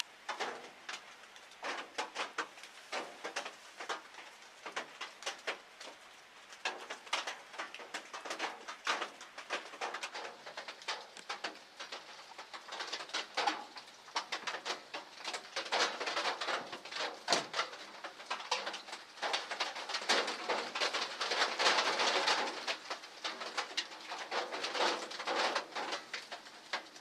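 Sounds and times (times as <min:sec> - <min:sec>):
rain pattering on a roof: 0:00.0 - 0:27.0.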